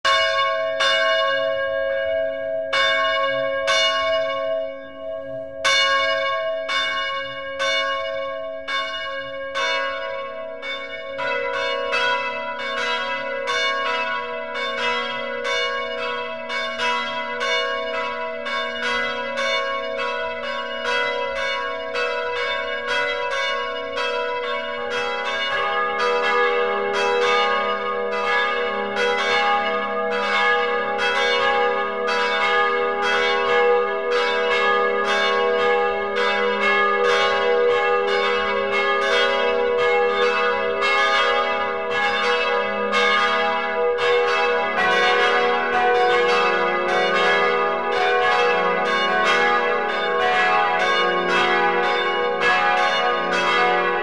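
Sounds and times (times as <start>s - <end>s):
church bells ringing: 0.0s - 54.0s.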